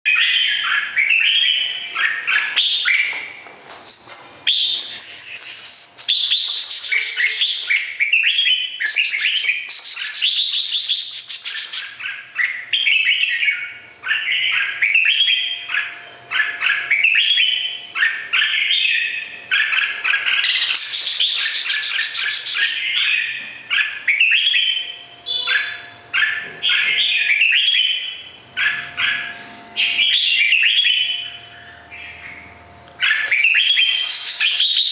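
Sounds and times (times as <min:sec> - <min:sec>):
bird singing whistled phrases: 0:00.1 - 0:03.1, 0:03.9 - 0:19.3, 0:20.2 - 0:23.4, 0:24.1 - 0:28.2, 0:29.8 - 0:31.8, 0:33.0 - 0:34.9.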